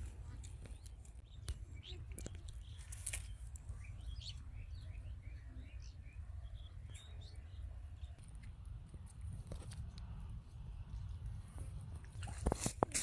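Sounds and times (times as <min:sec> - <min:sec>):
small birds chirping: 0:00.2 - 0:11.4.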